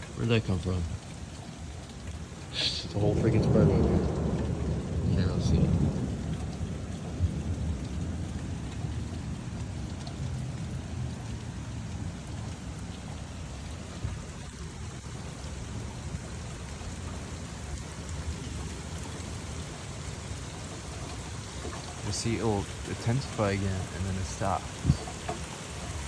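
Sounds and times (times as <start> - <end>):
steady rain: 0.0 - 26.0
thunder rumble: 1.9 - 26.0.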